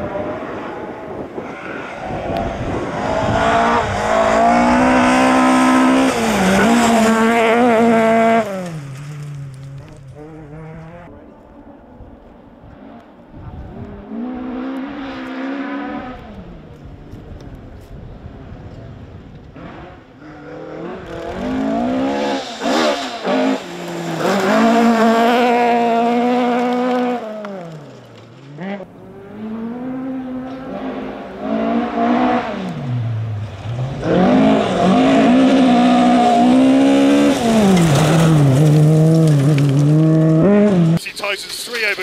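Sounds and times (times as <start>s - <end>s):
rally car engine revving: 0.0s - 17.5s, 18.1s - 41.2s.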